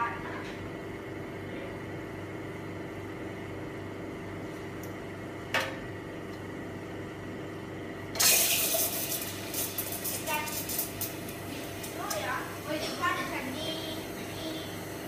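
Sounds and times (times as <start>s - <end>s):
espresso machine pump humming: 0.6s - 15.0s.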